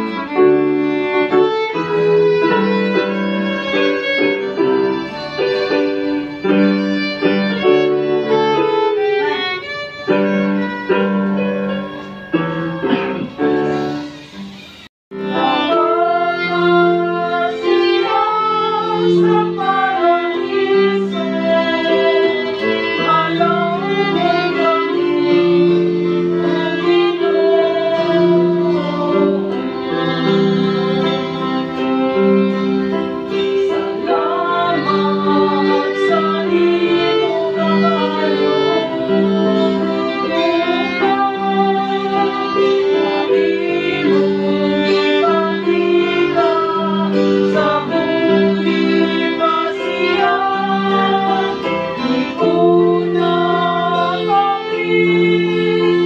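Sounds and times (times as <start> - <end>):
violin melody: 0.0 - 56.0.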